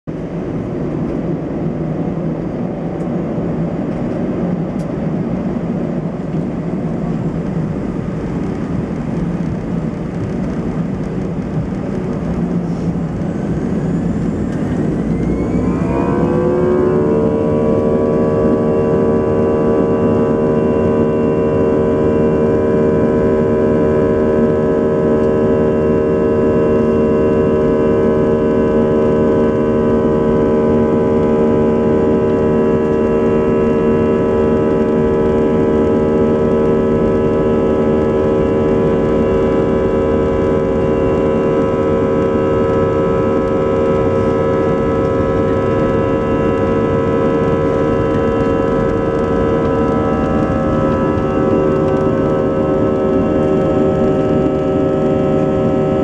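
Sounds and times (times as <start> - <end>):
jet engine rumble and whine: 0.0 - 56.0.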